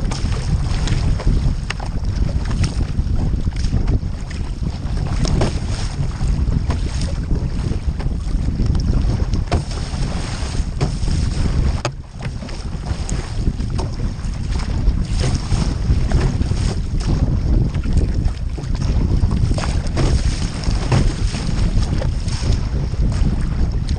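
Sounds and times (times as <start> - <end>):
paddle strokes splashing water: 0.0 - 23.9
wind buffeting microphone: 0.0 - 23.9.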